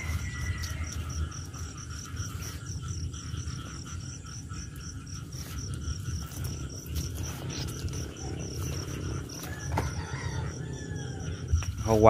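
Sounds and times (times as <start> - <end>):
insect chirping: 0.0 - 12.0
low rumble: 0.0 - 12.0.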